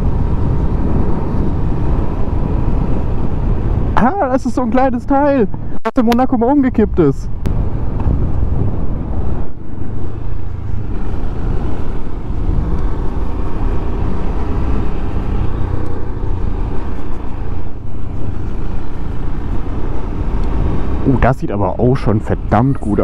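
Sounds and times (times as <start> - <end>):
road noise: 0.0 - 23.0
wind noise: 0.0 - 23.0.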